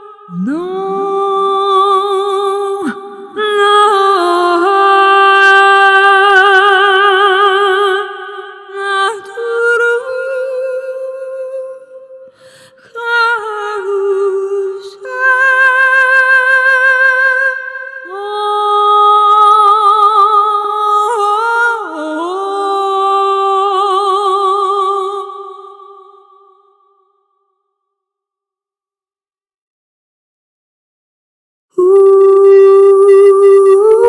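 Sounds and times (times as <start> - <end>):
woman singing wordless notes: 0.0 - 26.2, 31.8 - 34.0.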